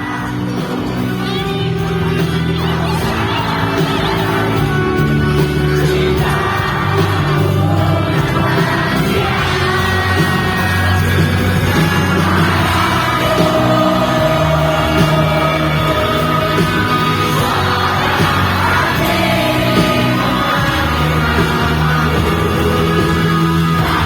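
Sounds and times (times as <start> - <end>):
crowd yelling: 0.0 - 24.0
live pop-rock music with singing: 0.0 - 24.0.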